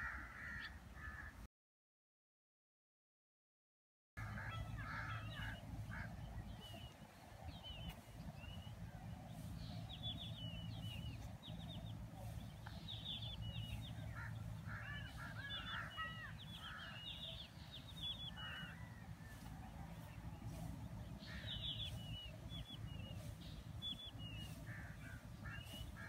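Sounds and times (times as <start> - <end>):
steady low hum: 4.2 - 26.0.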